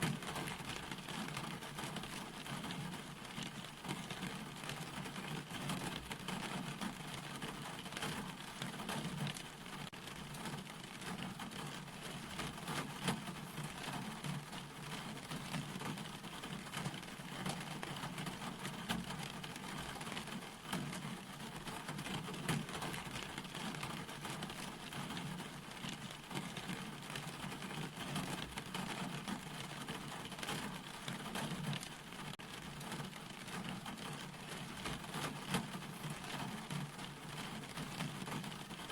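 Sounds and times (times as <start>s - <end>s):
steady rain on a surface: 0.0s - 38.9s.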